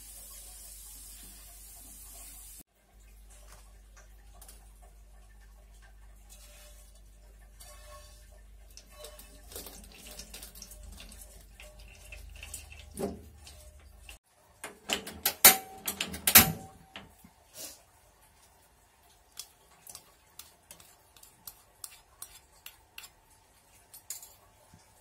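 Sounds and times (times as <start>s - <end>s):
hot oil pouring and crackling: 0.0s - 15.6s, 17.0s - 25.0s.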